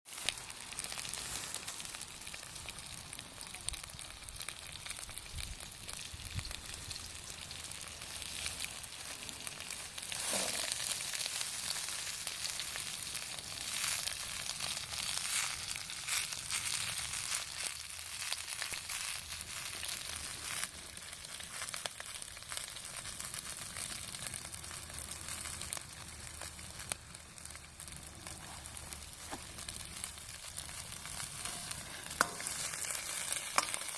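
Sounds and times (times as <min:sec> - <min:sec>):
food sizzling in a wok: 0:00.1 - 0:33.9
sharp crackles: 0:00.1 - 0:33.9.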